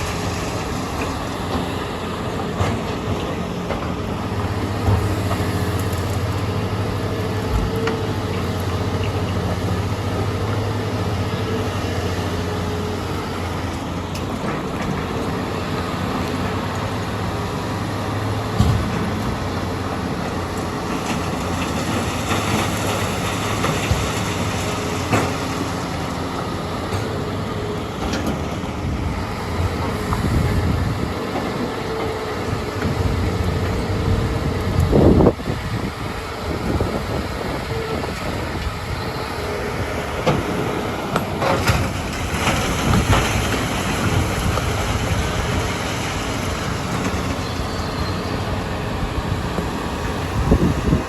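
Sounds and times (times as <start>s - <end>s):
heavy diesel machinery running: 0.0s - 51.0s.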